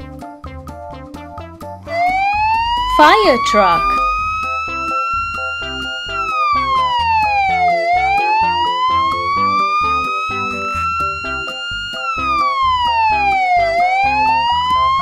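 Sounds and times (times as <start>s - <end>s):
fire engine siren wailing: 1.9s - 15.0s.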